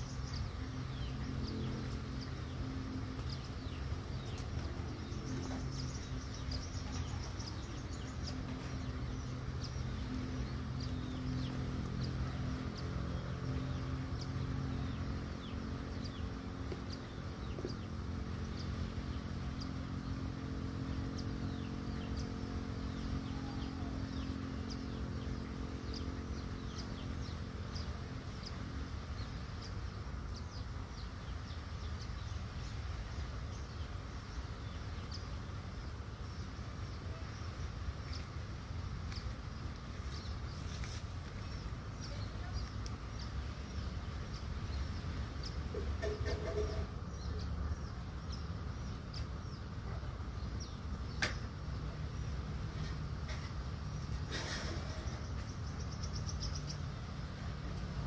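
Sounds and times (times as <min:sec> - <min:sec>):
low steady hum: 0:00.0 - 0:58.0
small birds chirping: 0:00.0 - 0:58.0.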